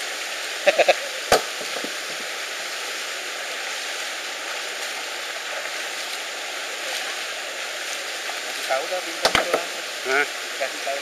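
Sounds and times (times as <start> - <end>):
stream water over rocks: 0.0 - 11.0.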